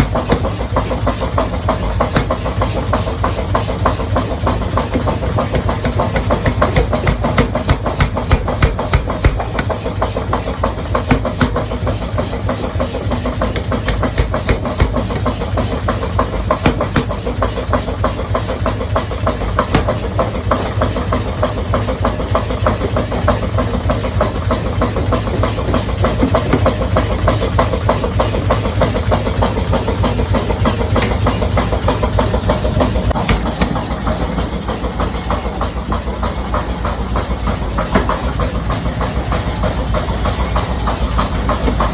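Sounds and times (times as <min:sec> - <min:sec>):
rapid clatter of knocks: 0:00.0 - 0:39.2
factory machinery humming: 0:00.0 - 0:41.9.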